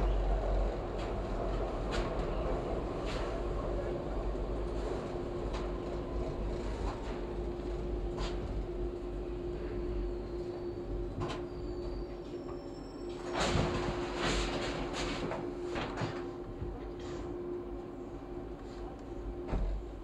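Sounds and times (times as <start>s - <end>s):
subway train rumble and hum: 0.0s - 20.0s.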